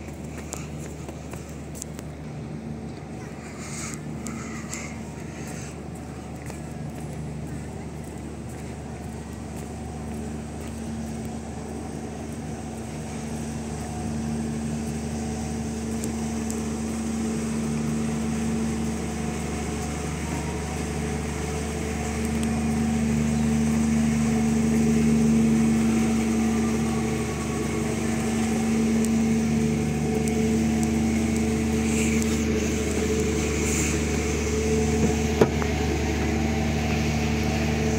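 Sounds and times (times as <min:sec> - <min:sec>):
engine droning: 0:00.0 - 0:37.9.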